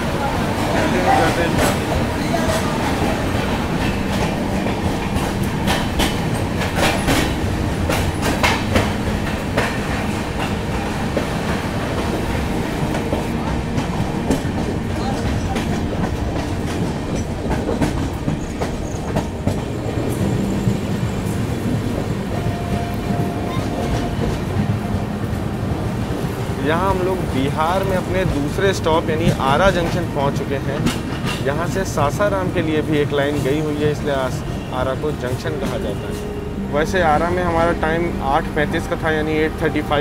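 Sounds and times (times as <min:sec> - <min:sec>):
wheels clickety-clack over joints: 0:00.0 - 0:36.4
train wheels rumbling on rail: 0:00.0 - 0:40.0.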